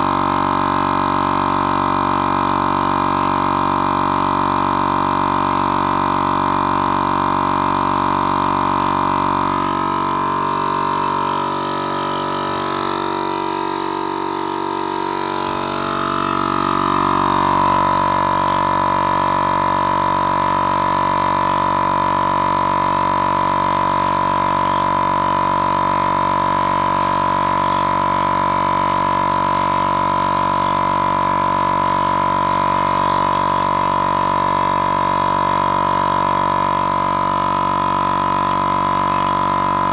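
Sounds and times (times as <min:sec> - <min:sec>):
air compressor buzzing drone: 0:00.0 - 0:39.9.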